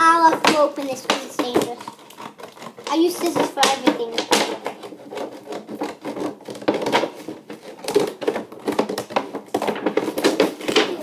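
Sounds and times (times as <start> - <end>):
cardboard rustling: 0.0 - 11.0
cardboard scraping: 0.0 - 11.0.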